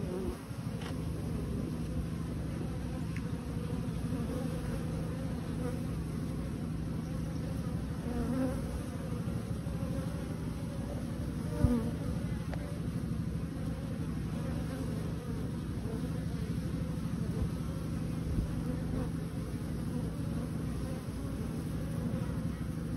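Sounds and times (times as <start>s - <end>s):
honeybees buzzing: 0.0s - 22.9s.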